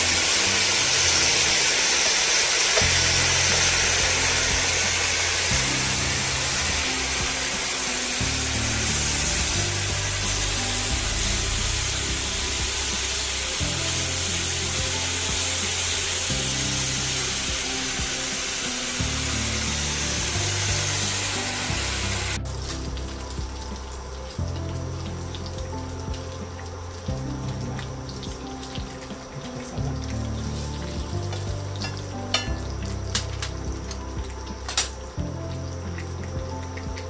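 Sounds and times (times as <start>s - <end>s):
background music with bass line: 0.0s - 37.0s
pork sizzling in a pan: 0.0s - 37.0s.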